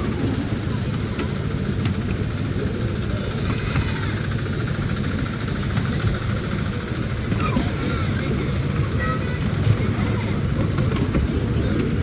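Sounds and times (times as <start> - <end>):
miniature train ride rumbling: 0.0 - 12.0.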